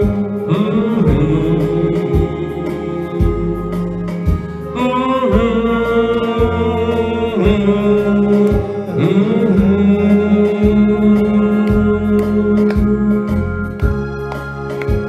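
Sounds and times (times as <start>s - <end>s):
steady low drum beat: 0.0s - 4.7s, 5.3s - 14.0s
karaoke backing track melody: 0.0s - 15.0s.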